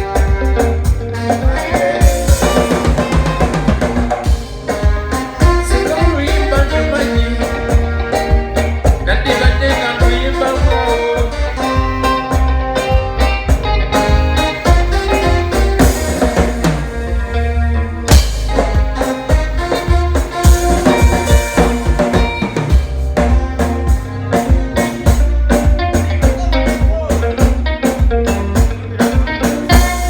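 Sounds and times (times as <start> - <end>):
live band playing: 0.0 - 30.0.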